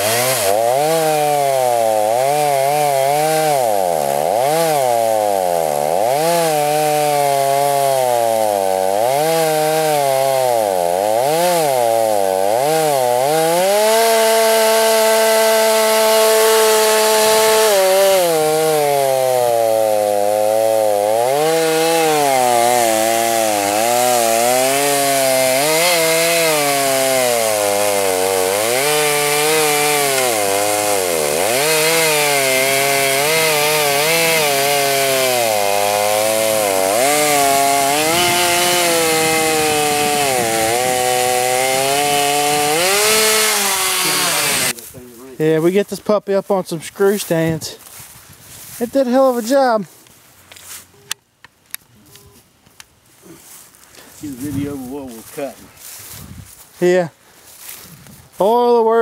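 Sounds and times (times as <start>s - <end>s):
chainsaw ripping through log: 0.0s - 44.9s, 53.2s - 56.9s.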